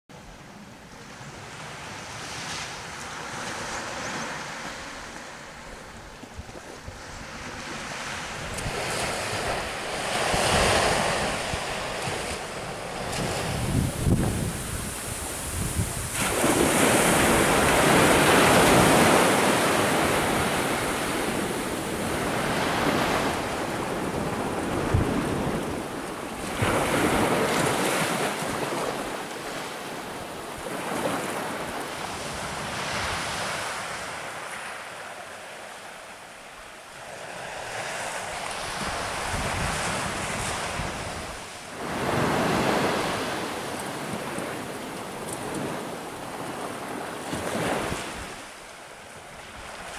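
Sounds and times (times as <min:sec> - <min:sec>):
wind rumble on microphone: 0:00.2 - 0:34.1, 0:37.4 - 0:48.6
waves washing on sand: 0:00.4 - 0:49.9.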